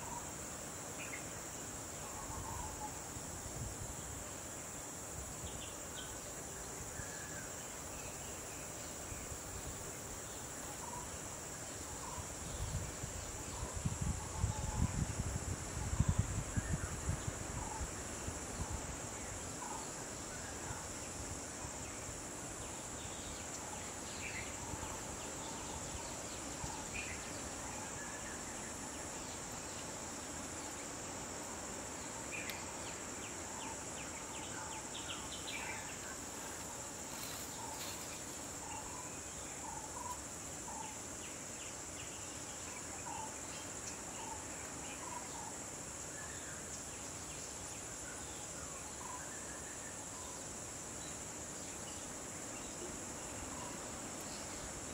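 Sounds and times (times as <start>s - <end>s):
high-pitched insect chorus: 0.0s - 54.9s
insect chirps: 0.0s - 54.9s.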